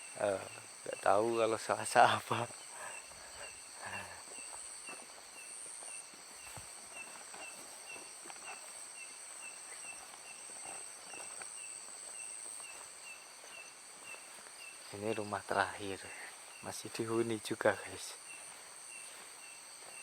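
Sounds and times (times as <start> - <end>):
crickets trilling: 0.0 - 20.0
insect chirping: 0.0 - 20.0.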